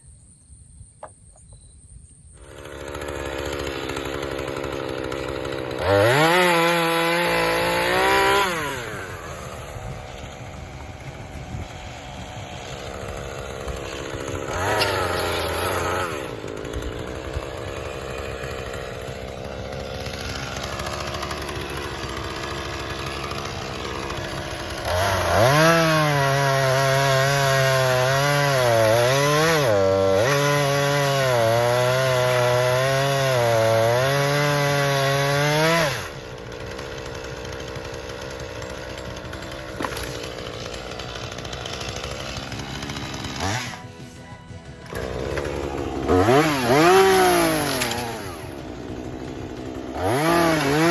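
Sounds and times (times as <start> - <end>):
chainsaw idling and revving: 2.4 - 50.9.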